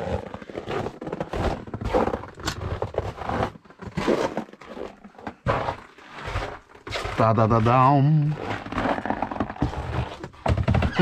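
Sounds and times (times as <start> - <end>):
crackles and knocks: 0.0 - 11.0.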